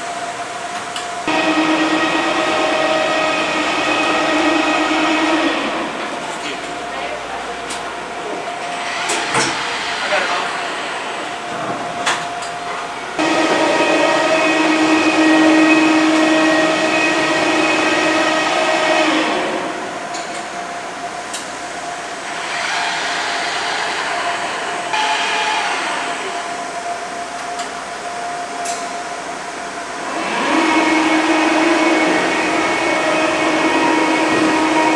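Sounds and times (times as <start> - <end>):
elevator electric hum and whine: 0.0 - 34.9
low machinery drone: 0.0 - 34.9.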